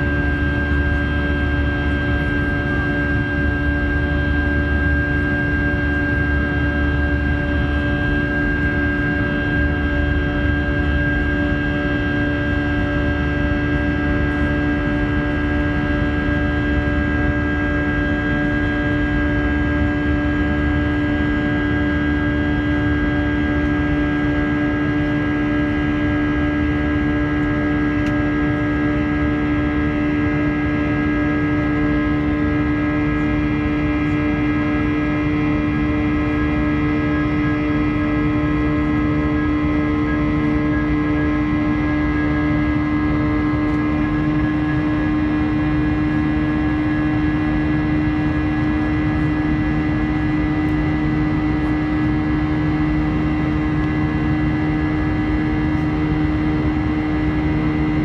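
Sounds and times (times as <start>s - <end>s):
jet engine drone: 0.0s - 58.0s
whining engine tones: 0.0s - 58.0s.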